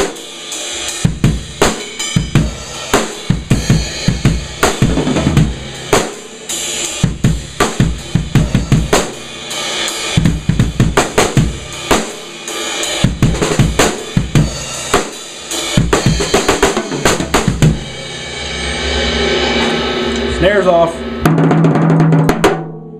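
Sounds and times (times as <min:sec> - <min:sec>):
cymbals: 0:00.0 - 0:22.3
bass drum: 0:01.0 - 0:06.4, 0:07.0 - 0:09.4, 0:10.2 - 0:12.2, 0:13.0 - 0:18.3, 0:19.0 - 0:22.9.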